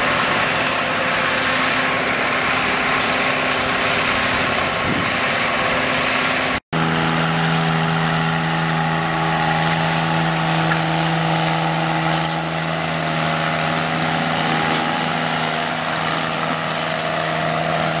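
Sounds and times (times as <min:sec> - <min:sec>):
compact tractor engine running: 0:00.0 - 0:18.0
larger tractor engine: 0:00.0 - 0:18.0.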